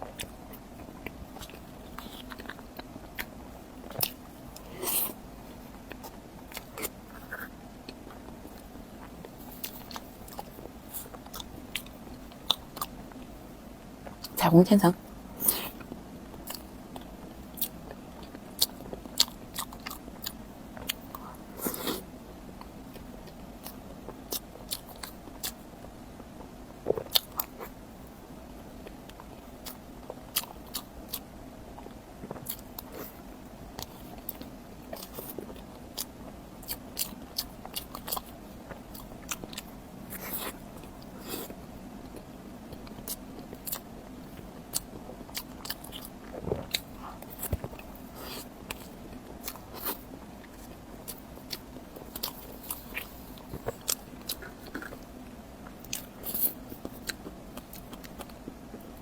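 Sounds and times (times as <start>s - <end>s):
close-miked chewing and mouth clicks: 0.0s - 13.3s, 15.4s - 22.0s, 22.6s - 25.7s, 26.8s - 27.8s, 28.8s - 33.2s, 33.8s - 58.9s.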